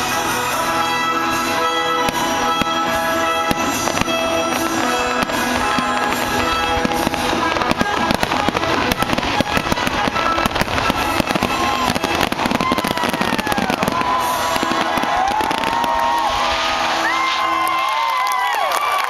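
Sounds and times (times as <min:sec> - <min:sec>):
fireworks bursting and crackling: 0:00.0 - 0:19.0
music: 0:00.0 - 0:19.0.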